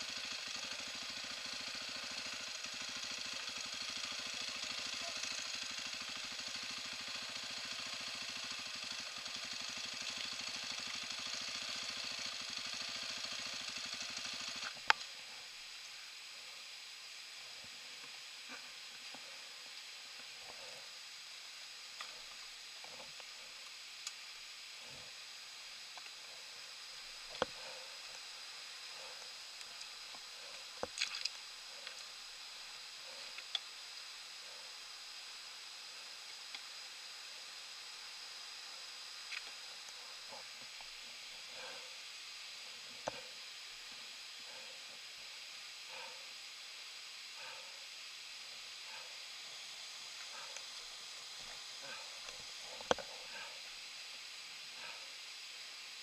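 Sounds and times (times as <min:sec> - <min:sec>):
faint steady hiss: 0:00.0 - 0:07.4, 0:14.6 - 0:56.0
dirt bike engine idling: 0:00.0 - 0:16.7, 0:26.0 - 0:46.6, 0:47.2 - 0:55.3.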